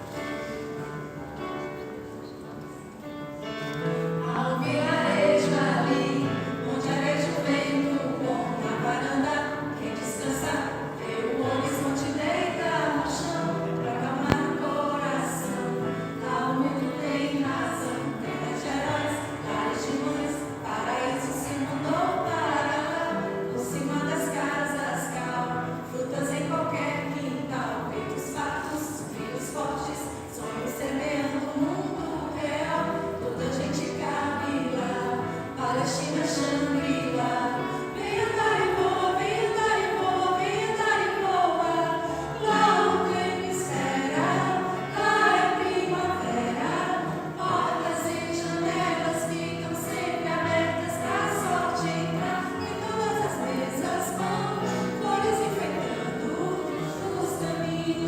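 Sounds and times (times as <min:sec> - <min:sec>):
musical accompaniment: 0:00.0 - 0:58.0
choir singing: 0:03.9 - 0:58.0.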